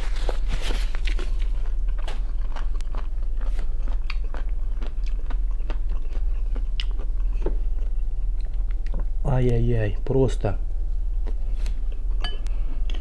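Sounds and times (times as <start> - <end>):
man chewing food: 0.0 - 9.2, 11.0 - 13.0
low hum: 0.0 - 13.0.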